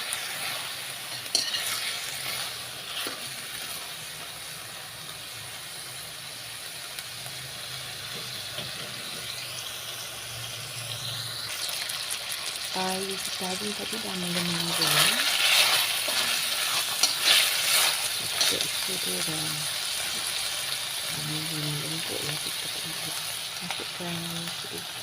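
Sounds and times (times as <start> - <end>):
meat sizzling in a pan: 0.0 - 25.0.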